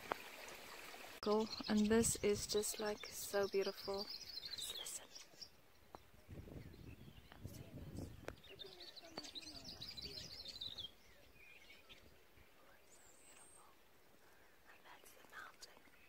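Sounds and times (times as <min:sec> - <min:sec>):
songbird twittering: 0:01.2 - 0:16.0.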